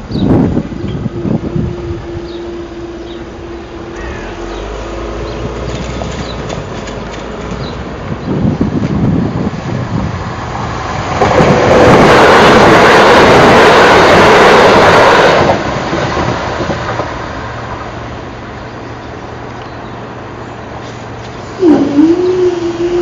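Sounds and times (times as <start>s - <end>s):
train wheels rushing on rail: 0.0s - 23.0s.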